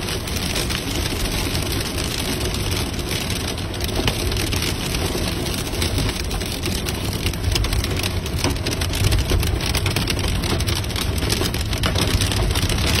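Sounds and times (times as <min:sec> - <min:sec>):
heavy rain drumming on a car roof: 0:00.0 - 0:13.0
low car rumble: 0:00.0 - 0:13.0.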